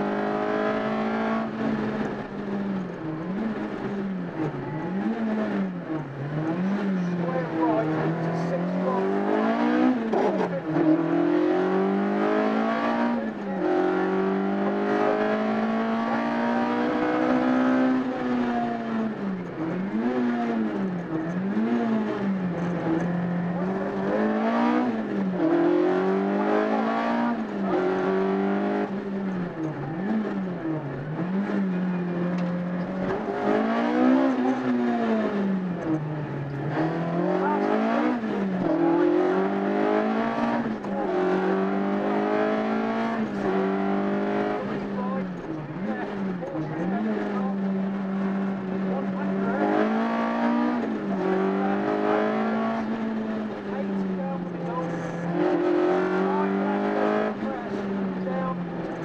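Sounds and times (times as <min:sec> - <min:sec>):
rally car engine revving: 0:00.0 - 0:59.0
road and tyre noise: 0:00.0 - 0:59.0.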